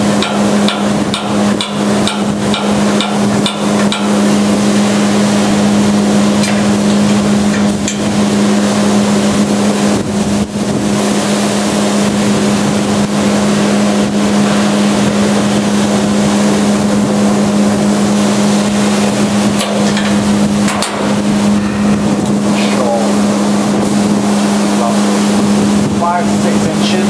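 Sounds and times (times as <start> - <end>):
machine droning: 0.0 - 27.0.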